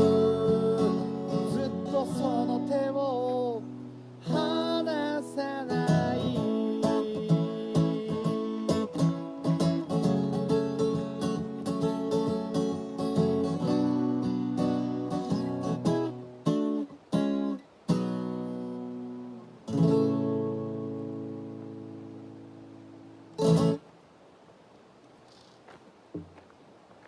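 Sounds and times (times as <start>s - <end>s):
acoustic guitar strumming: 0.0s - 23.9s.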